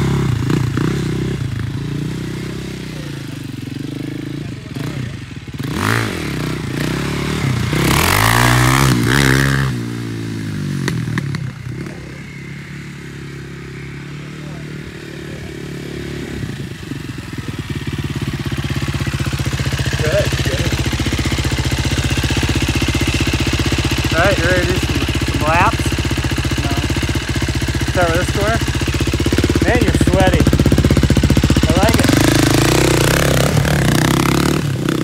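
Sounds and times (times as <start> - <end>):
quad engine revving and idling: 0.0 - 35.0.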